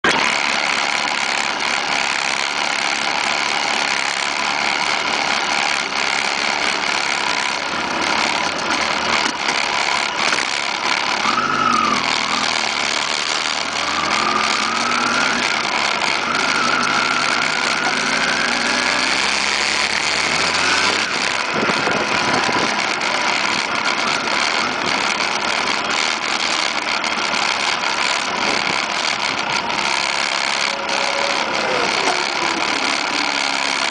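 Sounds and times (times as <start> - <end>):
motorcycle engine revving: 0.0 - 33.9
motorcycle engines running: 0.0 - 33.9.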